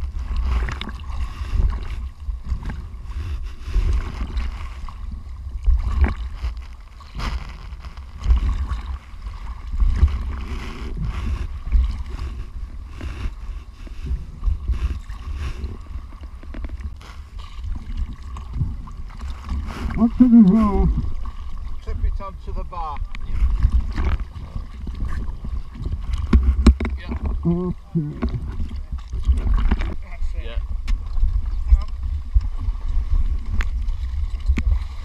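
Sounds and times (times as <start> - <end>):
sea waves splashing: 0.0 - 35.0.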